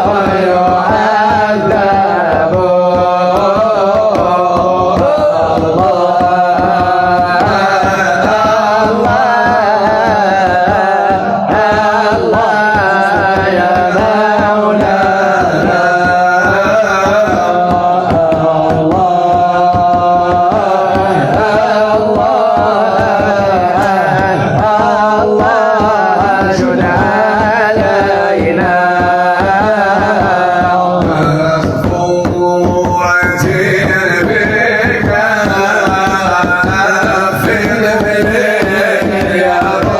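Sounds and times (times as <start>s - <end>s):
drum accompaniment: 0.0s - 39.9s
person singing: 0.0s - 39.9s.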